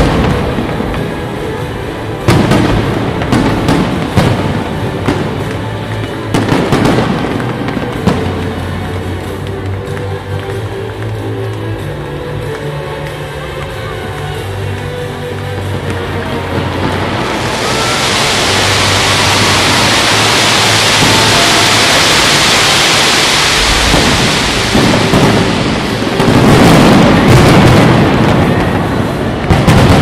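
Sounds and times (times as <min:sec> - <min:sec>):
deep firework bangs: 0:00.0 - 0:09.3, 0:14.7 - 0:30.0
hiss of bursting fireworks: 0:00.0 - 0:30.0.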